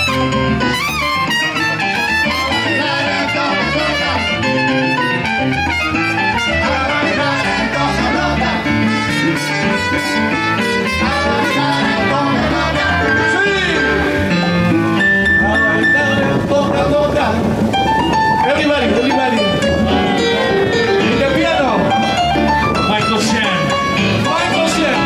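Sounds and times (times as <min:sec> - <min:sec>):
salsa dance band playing: 0:00.0 - 0:25.0.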